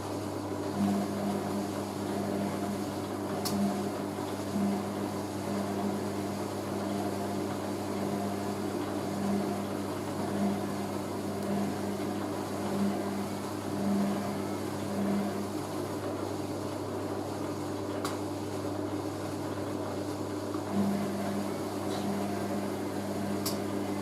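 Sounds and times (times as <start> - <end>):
washing machine running: 0.0 - 24.0.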